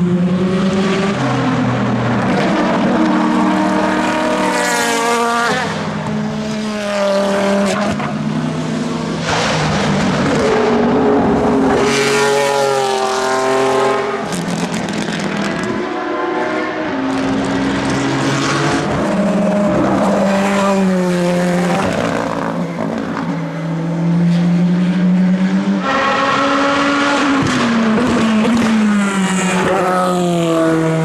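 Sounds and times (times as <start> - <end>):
race car engines accelerating: 0.0 - 31.0.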